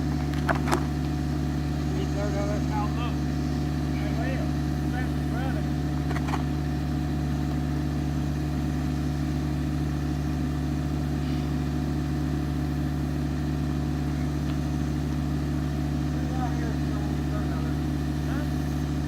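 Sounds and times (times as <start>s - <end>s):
excavator engine humming: 0.0s - 19.0s.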